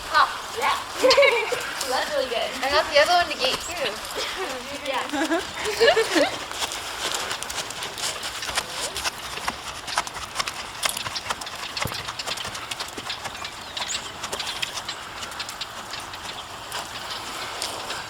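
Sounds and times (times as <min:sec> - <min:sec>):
horse hoofbeats clip-clopping: 0:00.0 - 0:18.0.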